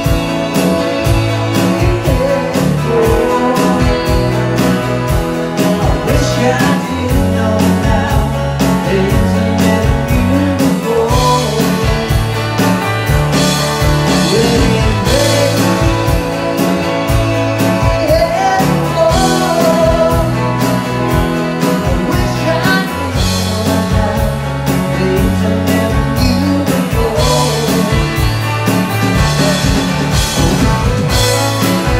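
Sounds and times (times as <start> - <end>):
man singing: 0.0 - 12.9, 14.0 - 31.9
electric guitars: 0.0 - 31.9
steady beat and bass: 0.0 - 31.9.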